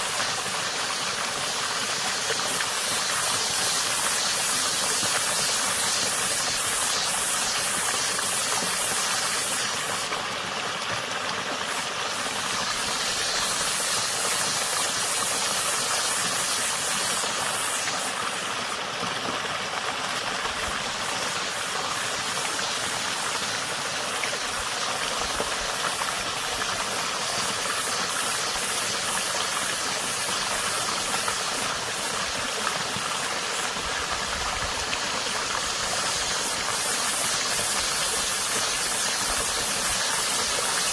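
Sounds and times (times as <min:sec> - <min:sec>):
stream running over stones: 0:00.0 - 0:40.9.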